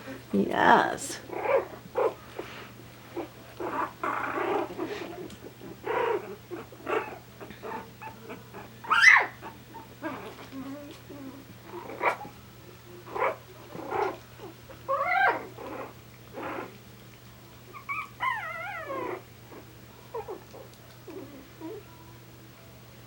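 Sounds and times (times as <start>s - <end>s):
puppies whining and yipping: 1.2s - 12.4s, 13.0s - 16.8s, 17.6s - 21.9s.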